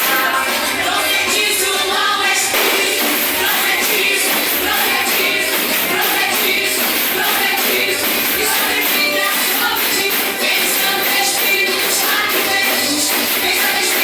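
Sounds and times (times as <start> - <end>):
group singing worship song: 0.0 - 14.0
instrumental accompaniment: 2.5 - 14.0
steady percussion beat: 2.5 - 14.0.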